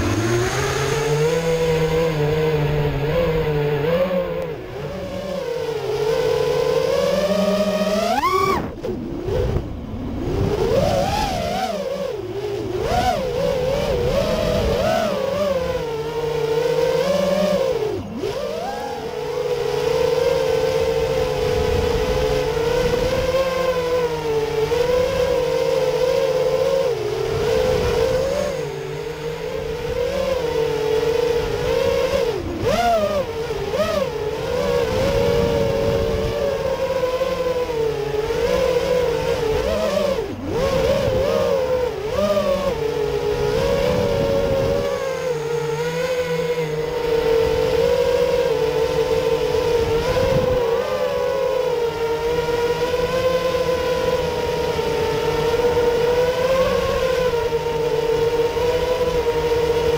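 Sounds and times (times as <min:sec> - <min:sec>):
quadcopter propellers whining: 0:00.0 - 0:59.9
wind rumble on microphone: 0:00.0 - 0:59.9.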